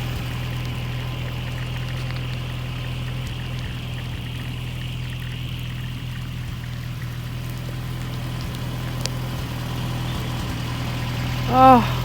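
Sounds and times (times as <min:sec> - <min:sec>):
van engine humming: 0:00.0 - 0:12.0.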